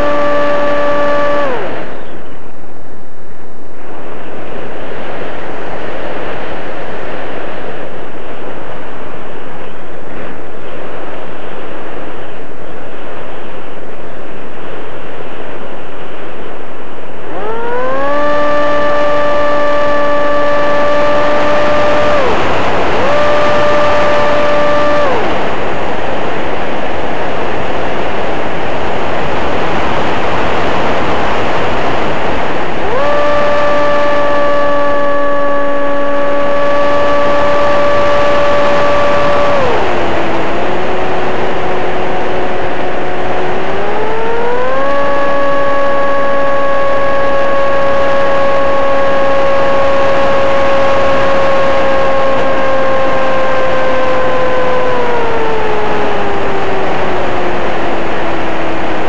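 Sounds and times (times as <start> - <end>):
electric motor and propeller whine: 0.0 - 2.9, 3.6 - 59.0
wind buffeting microphone: 0.0 - 59.0.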